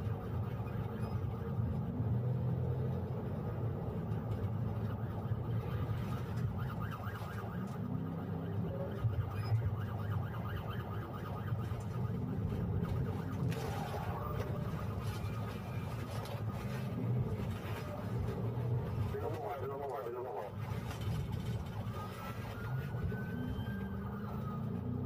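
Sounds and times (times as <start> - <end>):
car engine and road noise: 0.0 - 25.0
police siren sweeping: 0.0 - 25.0.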